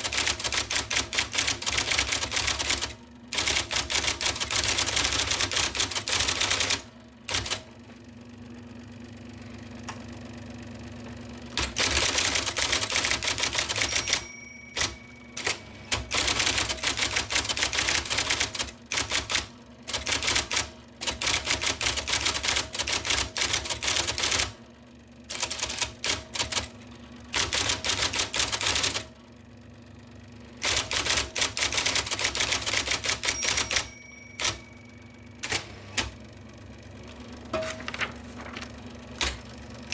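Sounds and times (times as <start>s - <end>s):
electric typewriter typing: 0.0s - 7.7s, 11.5s - 24.7s, 25.3s - 29.1s, 30.6s - 36.3s, 37.6s - 39.9s
typewriter motor hum: 0.0s - 7.7s, 11.4s - 29.1s, 30.5s - 39.9s.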